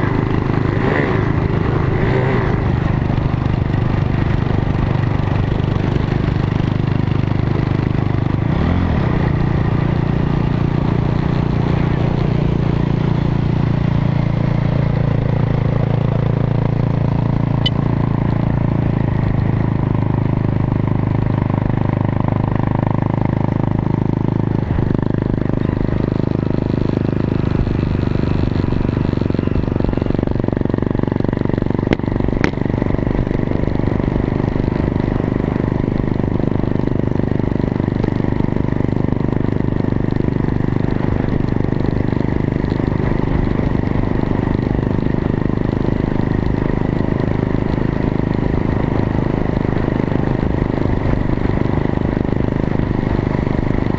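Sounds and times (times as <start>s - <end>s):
off-road motorbike engine running: 0.0s - 53.9s.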